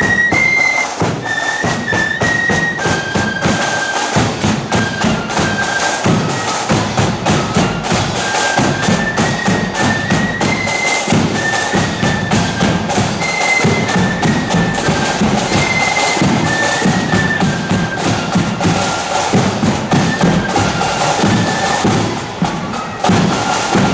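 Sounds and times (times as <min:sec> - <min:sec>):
flutes playing melody: 0:00.0 - 0:23.9
snare drums: 0:00.0 - 0:23.9.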